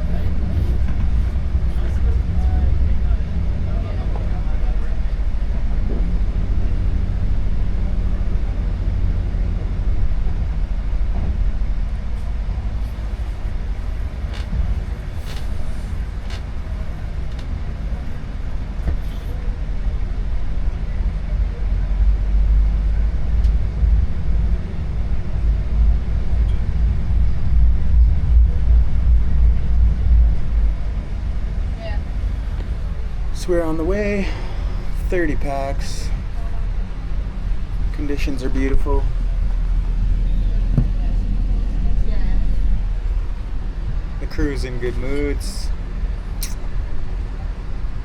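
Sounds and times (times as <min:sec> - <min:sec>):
boat engine rumbling: 0:00.0 - 0:48.0.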